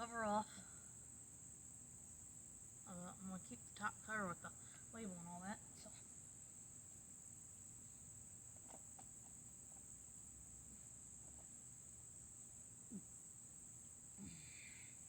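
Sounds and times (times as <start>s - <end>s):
crickets droning: 0.0s - 15.0s.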